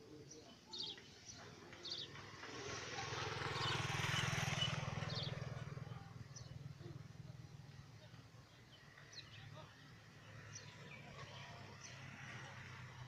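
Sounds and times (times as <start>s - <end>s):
motor vehicle passing: 0.8s - 13.0s.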